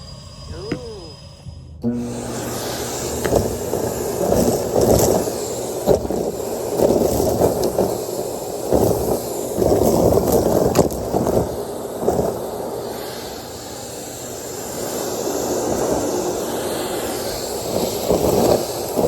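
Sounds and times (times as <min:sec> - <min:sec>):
vacuum cleaner running: 0:01.8 - 0:19.0.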